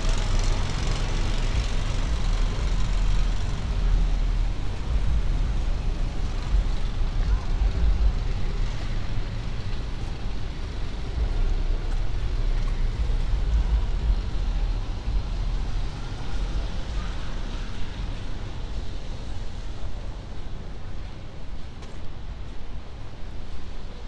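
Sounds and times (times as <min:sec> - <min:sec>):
city street traffic rumble: 0:00.0 - 0:24.0.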